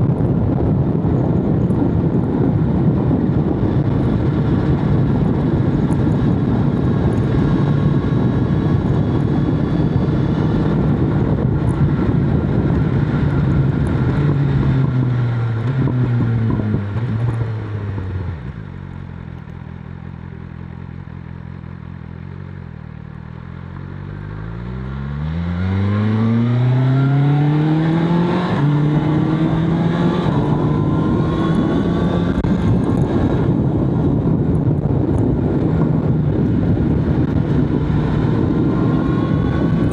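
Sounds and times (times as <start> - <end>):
wind rushing: 0.0 - 18.4, 25.2 - 39.9
motorcycle engine running: 0.0 - 39.9.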